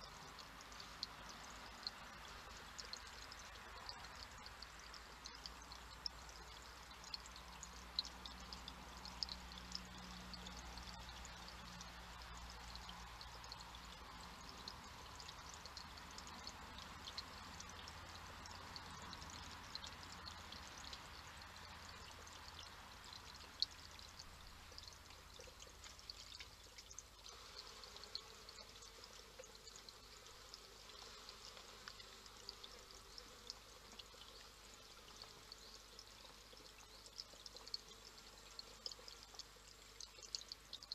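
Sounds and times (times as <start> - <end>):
splashing drips: 0.0 - 40.9
water trickling into stone basin: 0.0 - 40.9.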